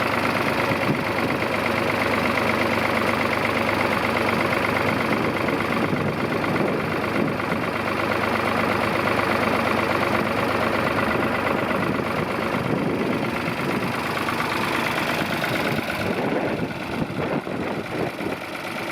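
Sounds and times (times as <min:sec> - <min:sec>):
tractor engine idling: 0:00.0 - 0:18.9.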